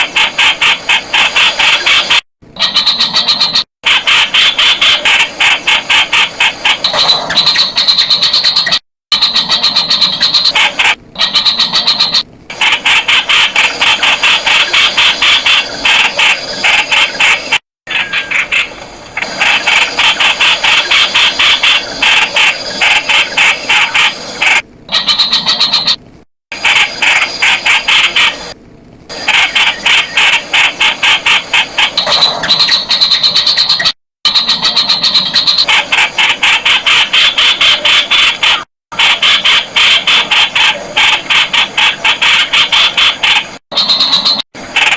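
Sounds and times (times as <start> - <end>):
bird calling sharp repeated notes: 1.4 - 17.2, 17.9 - 26.0, 29.2 - 44.9.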